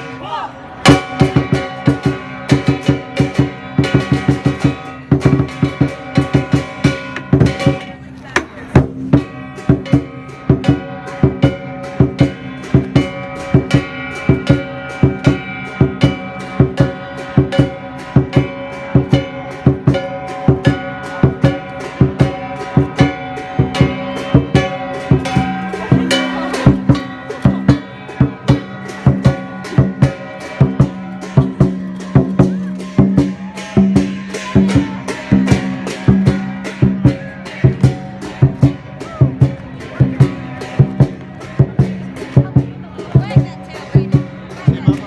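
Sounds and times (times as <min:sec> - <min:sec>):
held melodic notes: 0:00.0 - 0:45.0
fast drum beat: 0:00.8 - 0:45.0.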